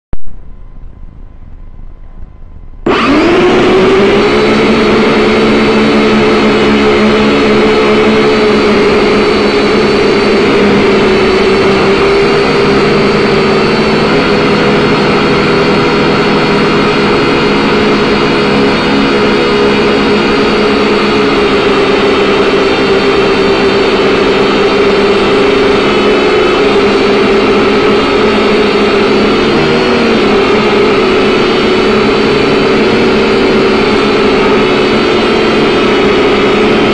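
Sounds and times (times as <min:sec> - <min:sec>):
drone propellers buzzing: 0:00.2 - 0:36.9.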